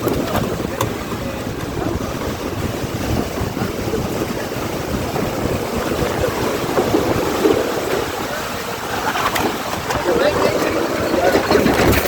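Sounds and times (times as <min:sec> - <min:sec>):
heavy wind buffeting microphone: 0:00.0 - 0:12.0.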